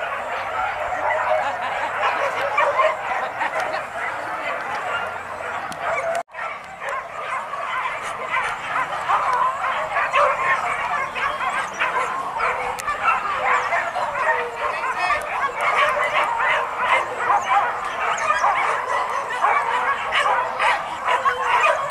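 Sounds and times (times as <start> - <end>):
dogs barking and yelping: 0.0 - 21.9.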